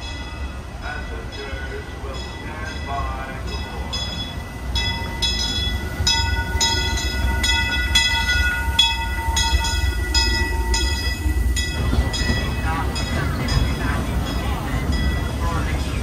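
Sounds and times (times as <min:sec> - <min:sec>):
locomotive bell ringing: 0:00.0 - 0:16.0
low rumble of train running: 0:00.0 - 0:16.0.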